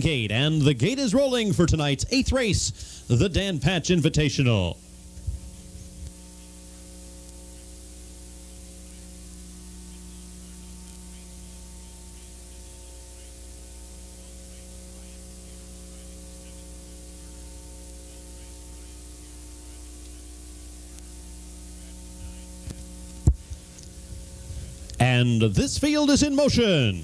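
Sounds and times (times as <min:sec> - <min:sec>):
recording hiss and hum: 0:00.0 - 0:27.0.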